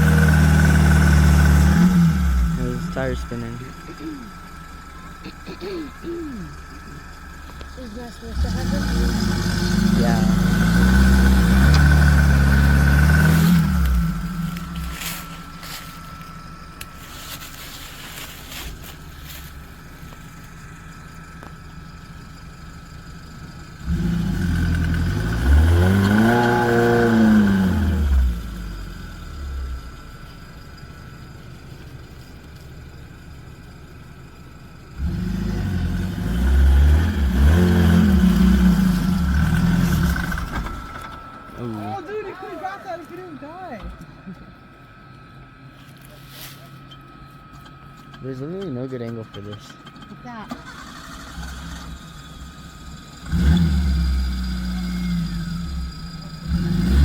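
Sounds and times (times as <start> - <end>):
off-road engine revving: 0.0 - 30.6, 34.8 - 44.4, 47.6 - 57.0
tire spinning: 0.0 - 57.0.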